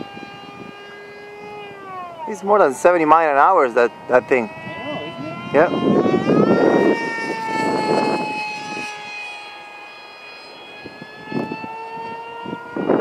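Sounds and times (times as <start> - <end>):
rc plane motor whine: 0.0 - 13.0.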